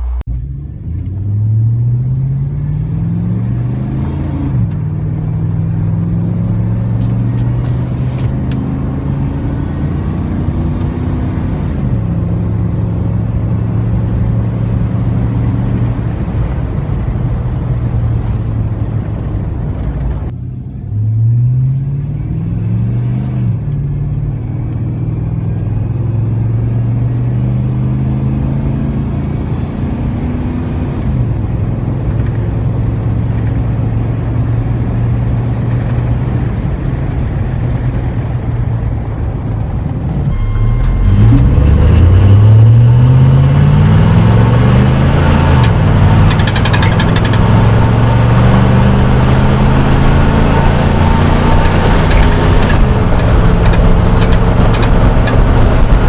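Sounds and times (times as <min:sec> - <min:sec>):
truck engine exhaust accelerating: 0:00.0 - 0:56.0.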